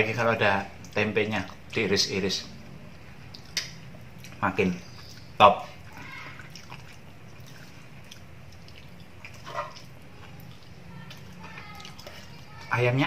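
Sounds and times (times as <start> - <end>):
low steady hum: 0.0 - 13.0
man chewing food: 0.4 - 12.9.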